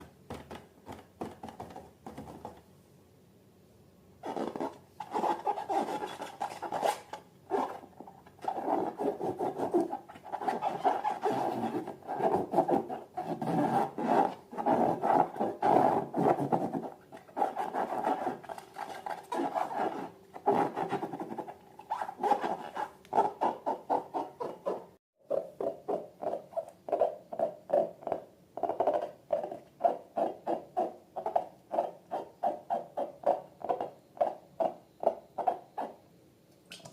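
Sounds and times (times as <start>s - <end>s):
rubbing and scratching balloons: 4.2s - 33.9s.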